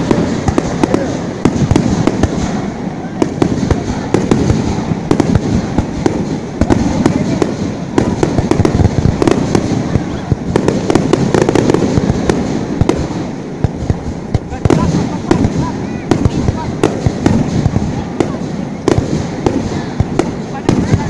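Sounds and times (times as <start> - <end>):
fireworks bangs and crackles: 0.0 - 21.0
low fireworks rumble: 0.0 - 21.0.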